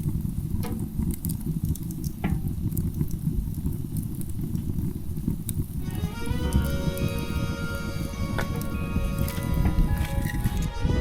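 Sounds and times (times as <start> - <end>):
fire popping: 0.0 - 11.0
wood fire crackling: 0.0 - 11.0.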